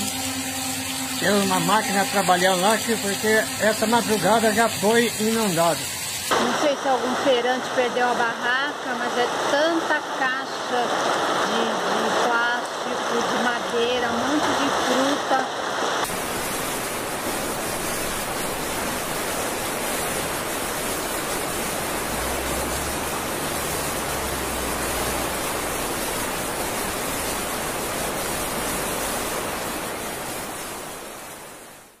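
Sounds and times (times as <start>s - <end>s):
floodwater rushing: 0.0s - 32.0s
rain: 0.0s - 32.0s.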